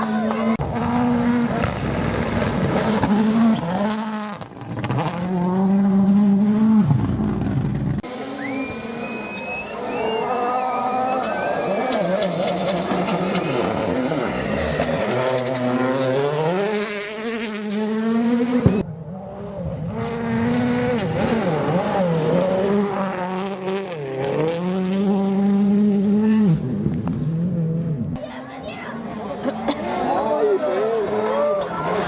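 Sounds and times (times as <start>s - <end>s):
rally car engine revving: 0.0s - 28.2s, 28.9s - 32.0s.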